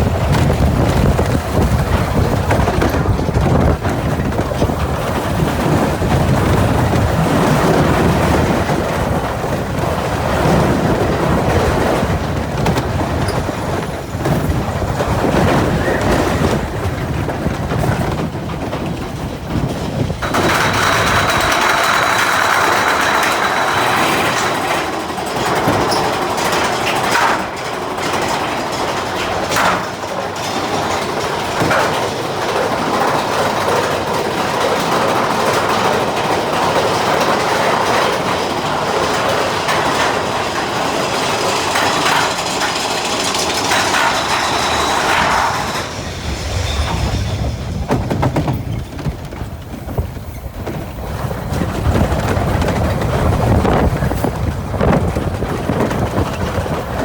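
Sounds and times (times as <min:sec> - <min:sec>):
roller coaster cars rattling on track: 0:00.0 - 0:57.0.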